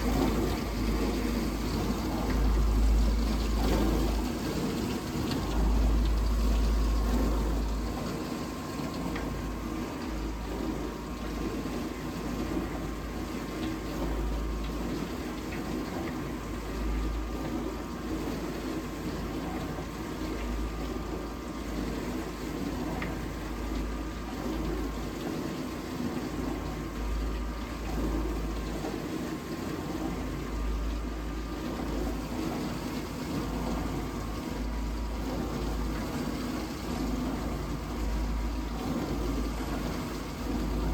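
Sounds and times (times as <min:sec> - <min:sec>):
dishwasher pump running: 0:00.0 - 0:40.9
water spraying and sloshing: 0:00.0 - 0:40.9.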